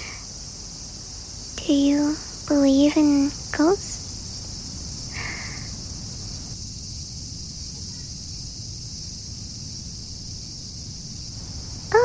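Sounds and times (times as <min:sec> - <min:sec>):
cicadas buzzing: 0:00.0 - 0:12.0
low outdoor rumble: 0:00.0 - 0:12.0.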